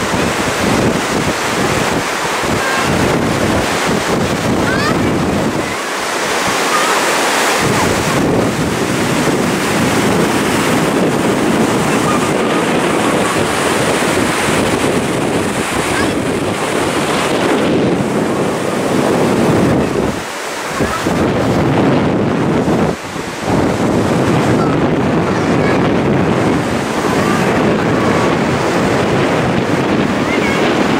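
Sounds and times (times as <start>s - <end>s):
ocean surf breaking: 0.0s - 30.9s
wind buffeting microphone: 0.0s - 30.9s.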